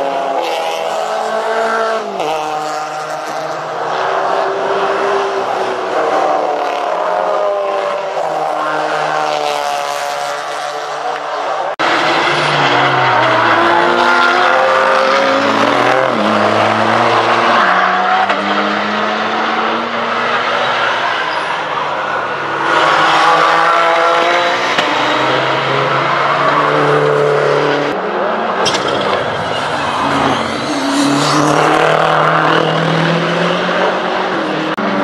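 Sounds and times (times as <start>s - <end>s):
race cars passing: 0.0s - 35.0s.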